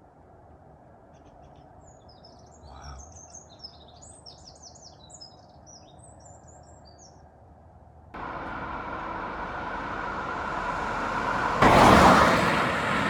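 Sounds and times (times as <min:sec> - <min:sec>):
songbirds chirping: 0:01.0 - 0:07.5, 0:08.2 - 0:13.0.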